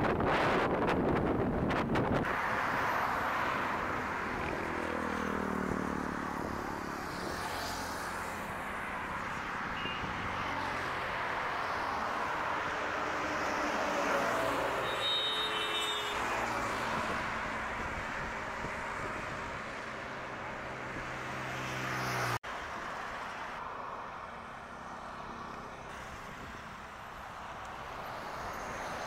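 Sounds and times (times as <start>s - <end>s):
vehicle road noise at highway speed: 0.0s - 29.0s.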